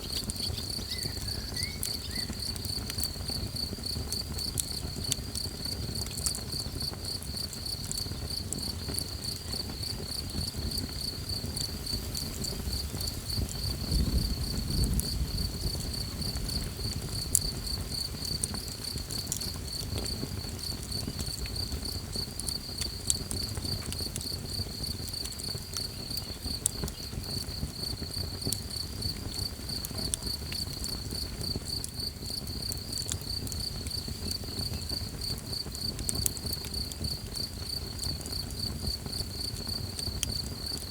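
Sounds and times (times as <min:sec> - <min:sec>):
campfire crackling: 0:00.0 - 0:40.9
night insects trilling: 0:00.0 - 0:40.9.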